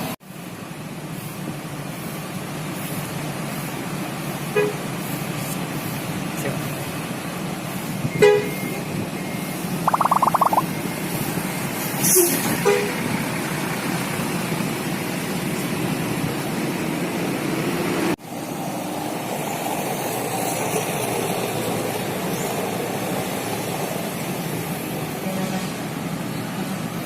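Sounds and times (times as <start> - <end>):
bus engines and traffic: 0.0 - 27.0.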